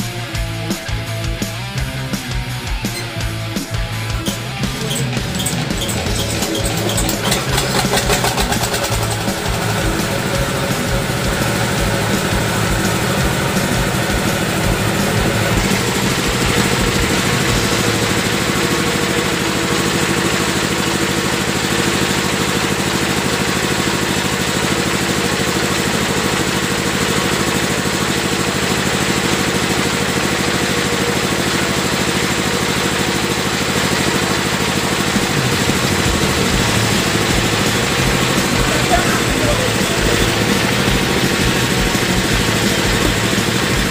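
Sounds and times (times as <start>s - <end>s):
small engine idling: 0.0s - 43.9s.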